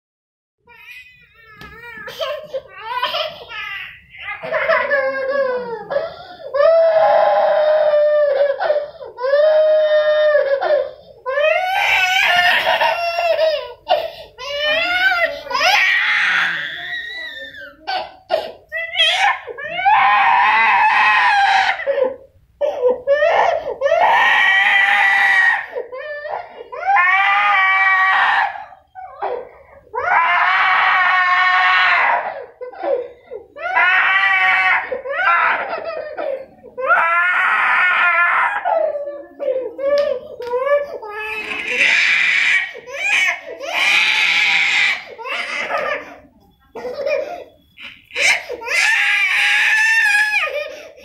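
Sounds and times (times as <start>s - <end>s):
toddler crying: 6.6s - 50.9s.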